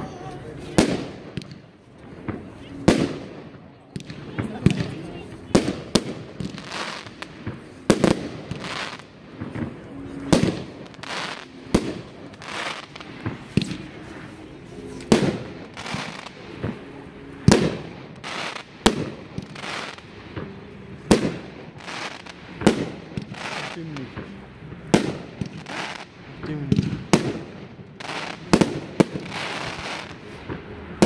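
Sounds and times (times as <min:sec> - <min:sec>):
fireworks crackling: 0:00.0 - 0:31.0
fireworks bangs: 0:00.6 - 0:14.4, 0:15.0 - 0:31.0.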